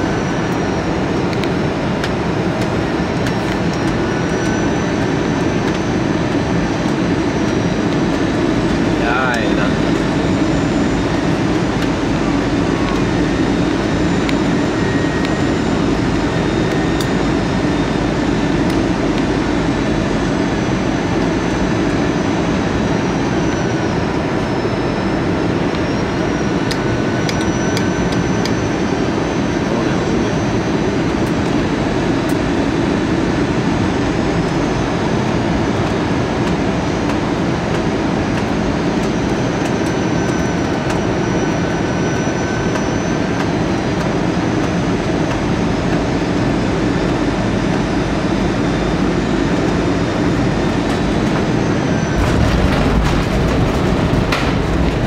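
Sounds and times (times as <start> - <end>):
jet cabin airflow roar: 0.0 - 55.0.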